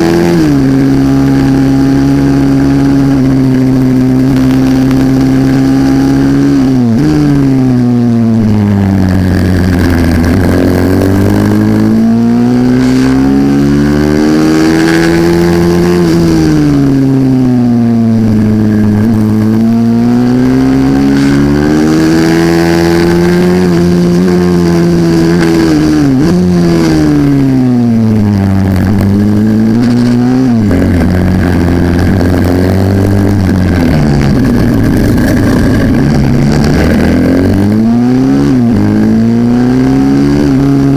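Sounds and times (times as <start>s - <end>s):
minibike engine revving: 0.0s - 40.9s.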